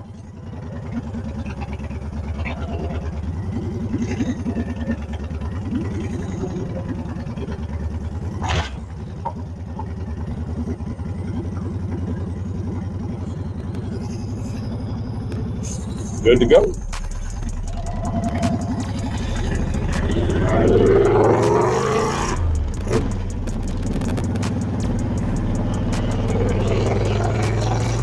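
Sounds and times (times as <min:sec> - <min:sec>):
motorcycle engine at low revs: 0:00.0 - 0:28.0.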